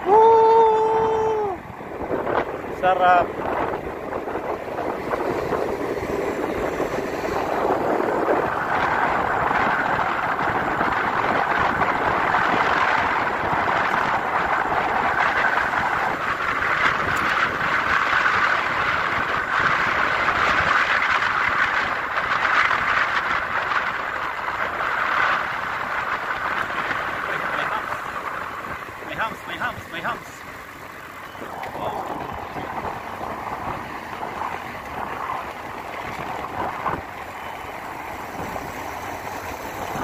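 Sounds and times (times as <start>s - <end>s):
bicycle tyres on asphalt: 0.0s - 40.0s
wind on microphone: 0.0s - 40.0s.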